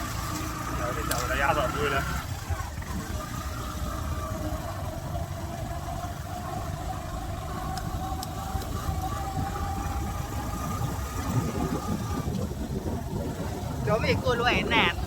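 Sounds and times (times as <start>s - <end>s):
motorcycle engine rumble: 0.0s - 15.0s.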